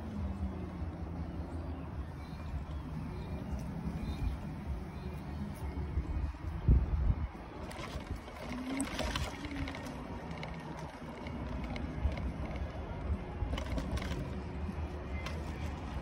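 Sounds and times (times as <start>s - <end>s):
scooter motor hum: 0.0s - 16.0s.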